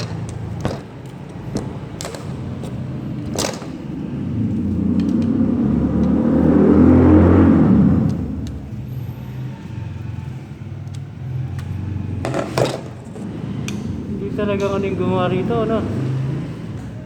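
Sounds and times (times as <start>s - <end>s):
vehicle engine rumble passing: 0.0s - 17.0s.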